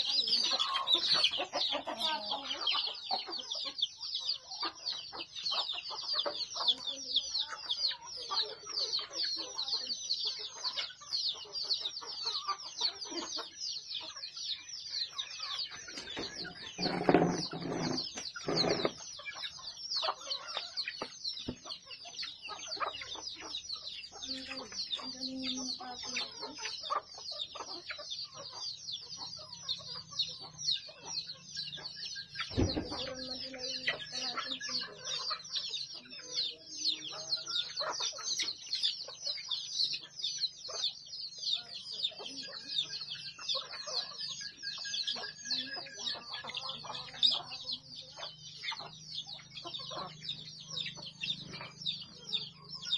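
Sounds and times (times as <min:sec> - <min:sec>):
hens clucking: 0:00.0 - 0:52.9
high-pitched chirping: 0:00.0 - 0:52.9.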